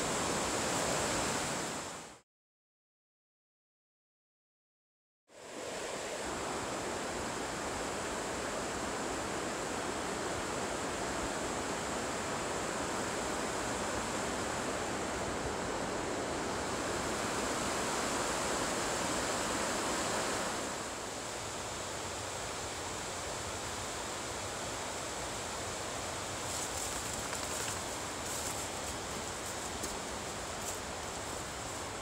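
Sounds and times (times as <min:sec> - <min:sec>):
creek water rushing: 0:00.0 - 0:02.2, 0:05.4 - 0:32.0.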